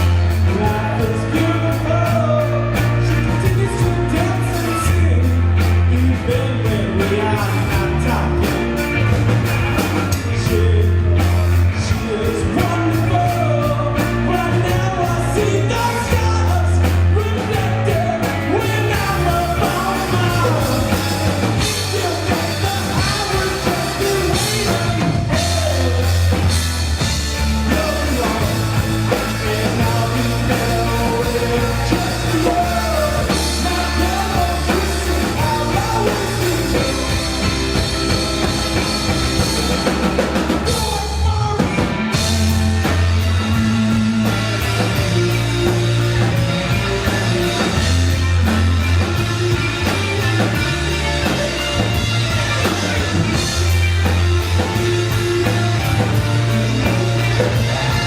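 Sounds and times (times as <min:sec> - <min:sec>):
person singing: 0:00.0 - 0:09.0, 0:10.1 - 0:47.9
live rock band playing: 0:00.0 - 0:58.0.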